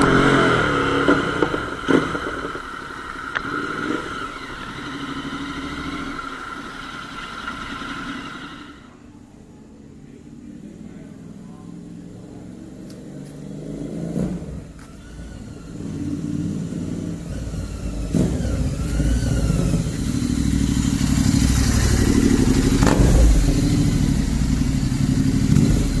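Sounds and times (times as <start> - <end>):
motorcycle engine revving: 0.0 - 9.0, 10.7 - 26.0.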